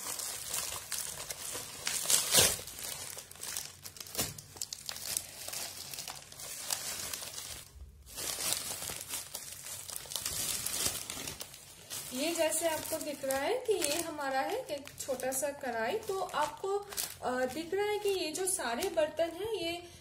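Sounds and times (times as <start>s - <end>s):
packaging crinkling and tearing: 0.0s - 19.6s.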